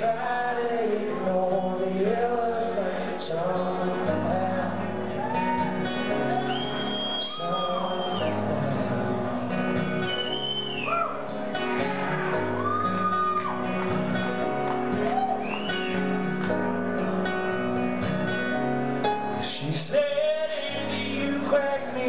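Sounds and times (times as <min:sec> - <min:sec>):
guitar chords: 0:00.0 - 0:22.0.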